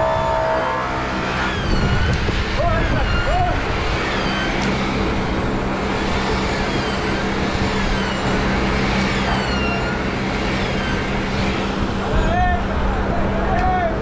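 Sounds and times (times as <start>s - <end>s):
machine humming and whining: 0.0s - 14.0s.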